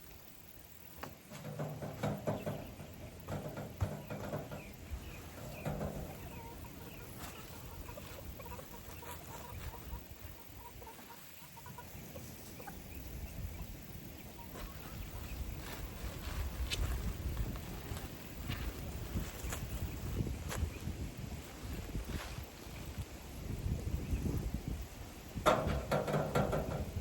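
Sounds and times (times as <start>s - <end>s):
hens clucking: 0.4s - 27.0s.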